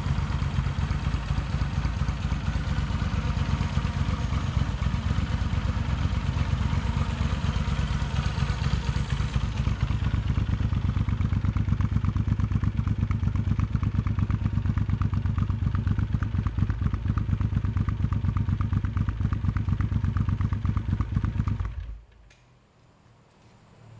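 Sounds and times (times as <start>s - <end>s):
motorcycle engine idling: 0.0s - 22.1s.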